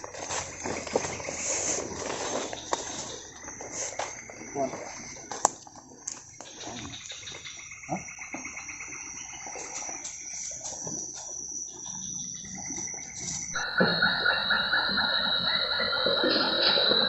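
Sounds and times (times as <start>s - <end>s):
frogs calling: 0.0s - 17.0s
insects high trill: 0.0s - 17.0s.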